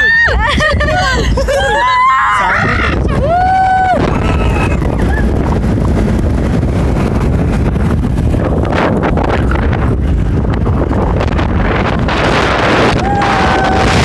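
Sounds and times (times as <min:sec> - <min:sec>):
vehicle road noise: 0:00.0 - 0:14.0
wind buffeting microphone: 0:00.0 - 0:14.0.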